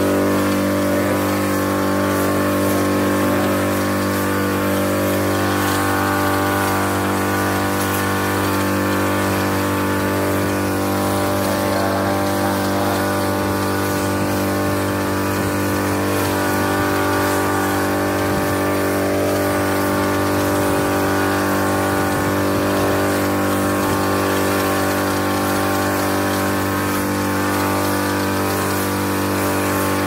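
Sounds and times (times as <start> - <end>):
hiss of spray mist: 0.0 - 30.0
power sprayer pump engine running: 0.0 - 30.0.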